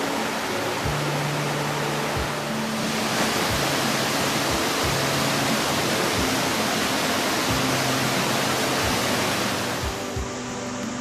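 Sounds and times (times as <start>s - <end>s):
soft background music: 0.0s - 11.0s
waterfall rushing: 0.0s - 11.0s.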